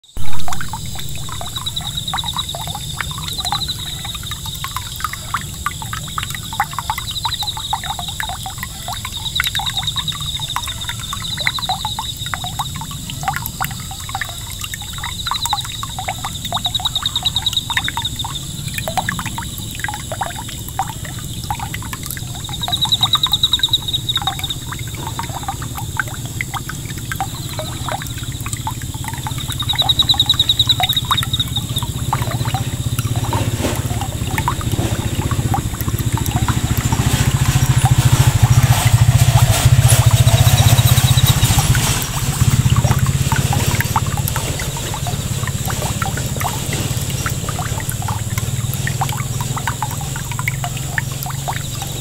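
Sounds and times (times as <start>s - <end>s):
water splashing onto pond: 0.0s - 52.0s.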